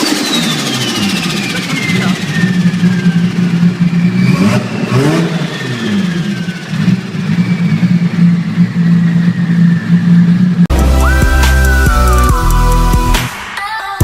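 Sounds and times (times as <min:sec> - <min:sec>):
car engine idling and revving: 0:00.0 - 0:13.3
high turbo whistle: 0:00.0 - 0:13.6.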